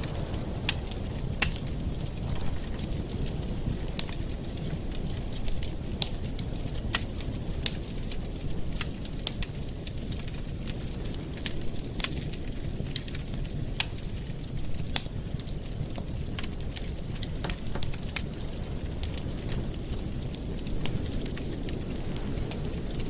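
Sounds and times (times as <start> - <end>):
campfire flames rumbling: 0.0 - 23.0
wood crackling and popping: 0.0 - 23.0.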